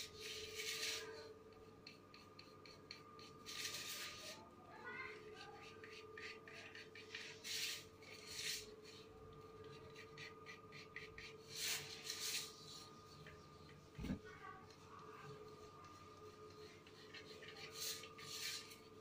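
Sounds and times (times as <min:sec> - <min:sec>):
faint steady hum: 0:00.0 - 0:19.0
pencil scratching on paper: 0:00.0 - 0:19.0.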